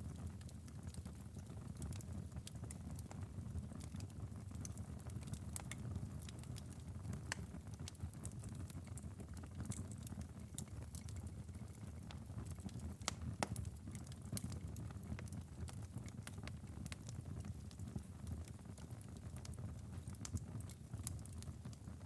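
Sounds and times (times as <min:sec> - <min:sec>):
low rumble of burning: 0:00.0 - 0:22.0
wood fire crackling: 0:00.0 - 0:22.0.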